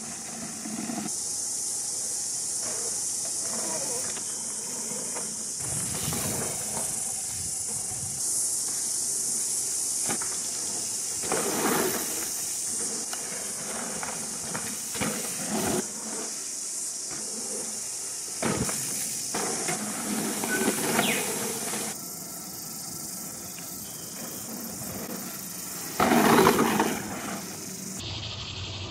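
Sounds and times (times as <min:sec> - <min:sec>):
steady high hiss: 0:00.0 - 0:28.9
bike tyres skidding on dirt: 0:02.6 - 0:22.0, 0:23.8 - 0:28.0.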